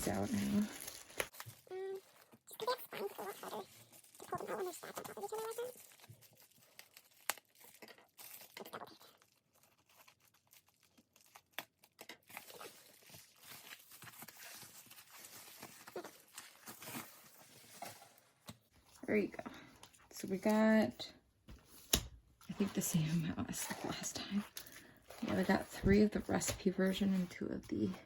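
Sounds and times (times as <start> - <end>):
paper and plastic rustling: 0.0 - 19.0, 21.5 - 28.0.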